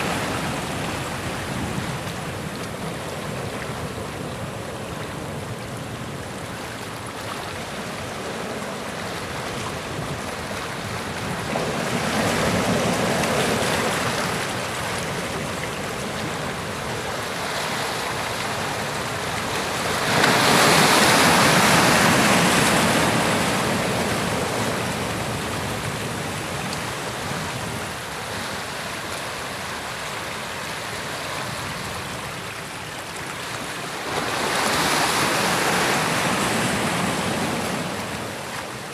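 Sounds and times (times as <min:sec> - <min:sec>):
sea surf on rocks: 0:00.0 - 0:38.9.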